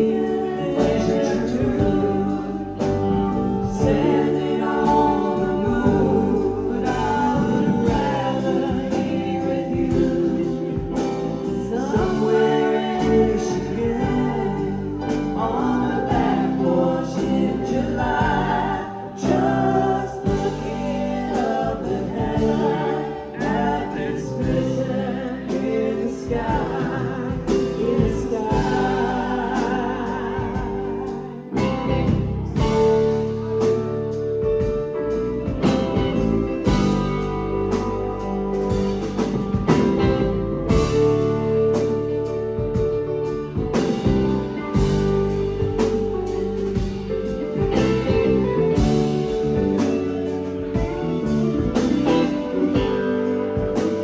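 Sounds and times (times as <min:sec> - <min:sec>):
person singing: 0:00.0 - 0:33.8, 0:35.6 - 0:54.0
live band playing: 0:00.0 - 0:54.0.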